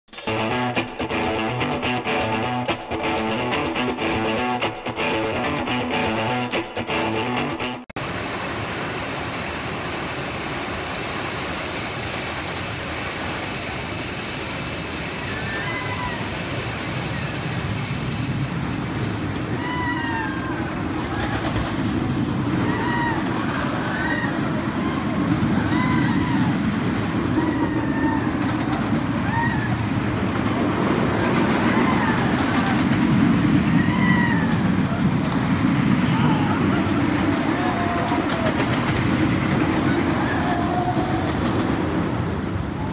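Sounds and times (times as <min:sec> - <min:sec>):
outdoor rushing noise: 0:00.1 - 0:42.9
roller coaster rumbling on track: 0:00.2 - 0:42.9.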